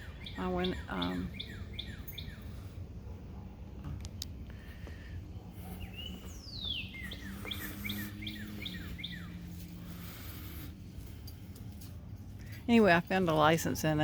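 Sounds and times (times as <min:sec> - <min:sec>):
songbird singing: 0:00.0 - 0:02.9, 0:04.0 - 0:14.0
low steady hum: 0:00.0 - 0:14.0.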